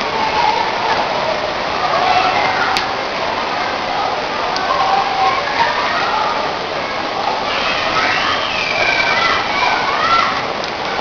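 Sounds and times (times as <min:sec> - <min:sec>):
heavy rain on buildings: 0:00.0 - 0:11.0.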